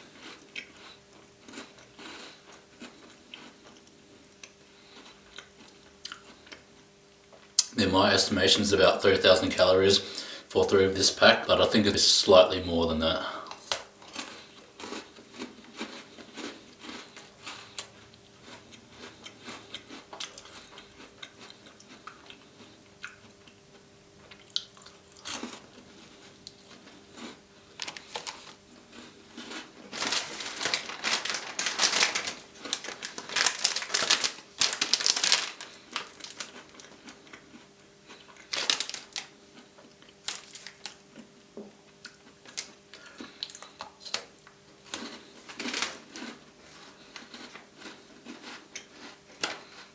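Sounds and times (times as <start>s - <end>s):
biscuits crunching while chewed: 0.0s - 10.2s, 12.8s - 49.9s.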